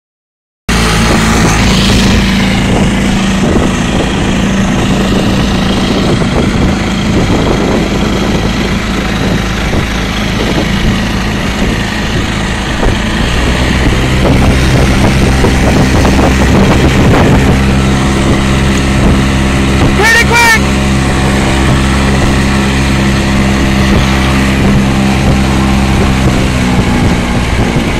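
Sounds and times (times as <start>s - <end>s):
outboard motor running: 0.7s - 27.9s.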